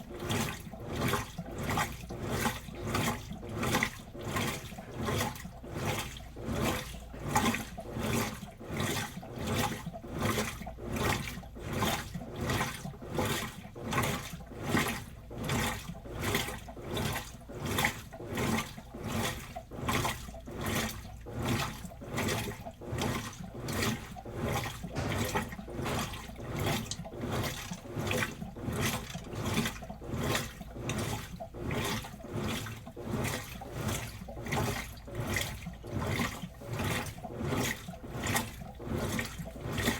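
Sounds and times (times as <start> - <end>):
washing machine drum sloshing: 0.0 - 39.9.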